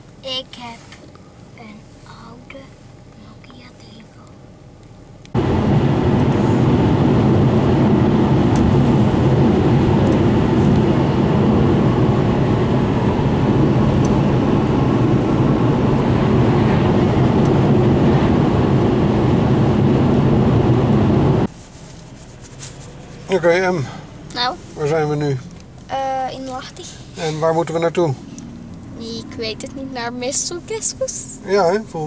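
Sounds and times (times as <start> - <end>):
car engine drone: 0.0 - 32.0.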